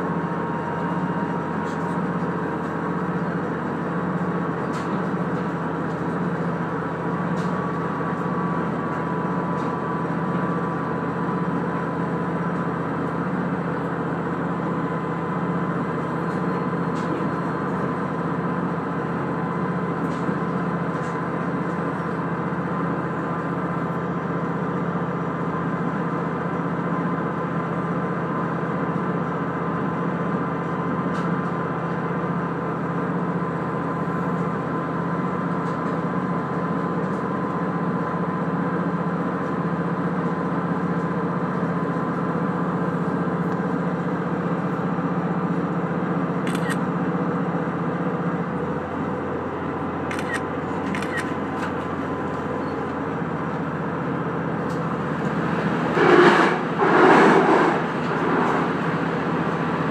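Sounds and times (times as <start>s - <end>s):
railcar running drone with whine: 0.0s - 59.9s.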